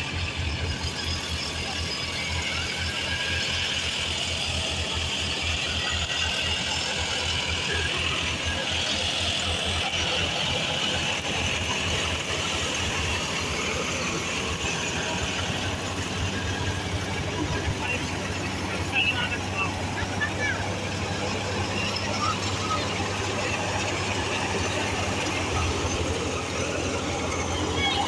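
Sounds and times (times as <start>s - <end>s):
tractor diesel engine chugging: 0.0s - 28.0s.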